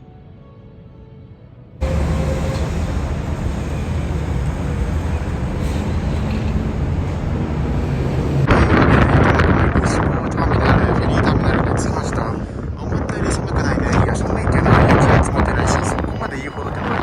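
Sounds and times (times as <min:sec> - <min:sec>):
ship engines rumbling: 0:01.8 - 0:17.0
wind buffeting microphone: 0:01.8 - 0:17.0.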